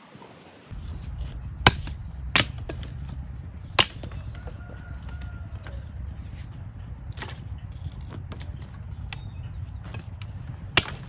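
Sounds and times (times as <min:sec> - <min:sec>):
wind rumble on microphone: 0:00.7 - 0:10.8
dry branches snapping: 0:00.7 - 0:11.0
twigs crackling: 0:00.7 - 0:11.0.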